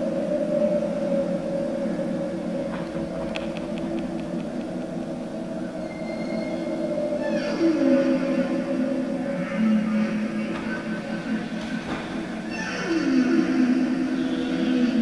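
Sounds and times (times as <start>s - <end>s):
low droning music: 0.0s - 15.0s.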